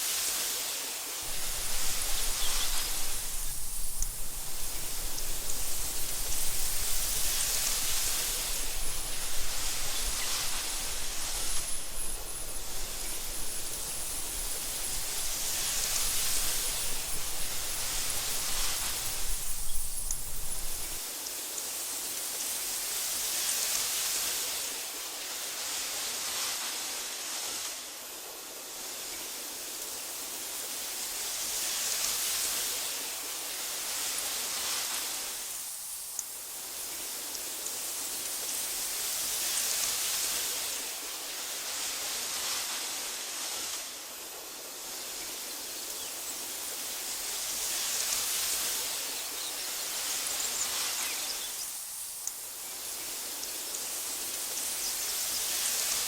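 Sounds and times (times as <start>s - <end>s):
wind rustling through grass: 0.0s - 56.0s.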